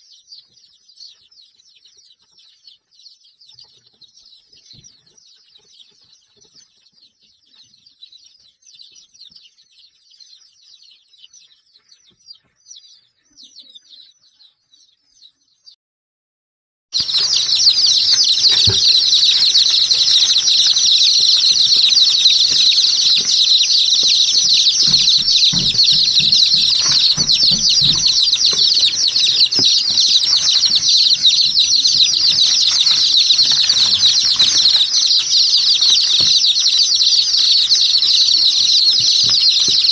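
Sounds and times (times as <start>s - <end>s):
flock of birds chirping: 0.0s - 15.8s, 17.0s - 39.9s.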